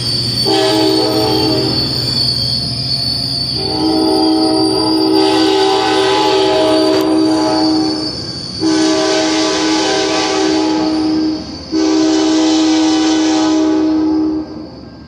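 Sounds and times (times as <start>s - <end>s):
train running noise: 0.0s - 15.0s
train horn blasts: 0.4s - 2.1s, 3.5s - 14.7s.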